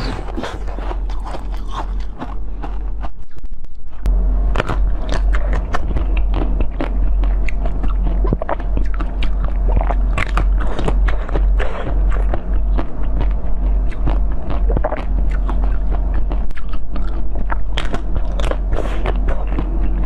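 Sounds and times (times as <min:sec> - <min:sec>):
crunchy bites and chewing: 0:00.0 - 0:20.0
low hum: 0:00.0 - 0:20.0.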